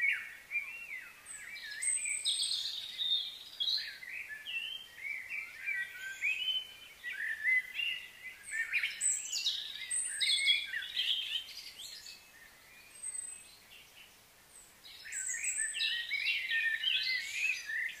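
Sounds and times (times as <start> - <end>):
birds singing and chirping: 0.0 - 18.0.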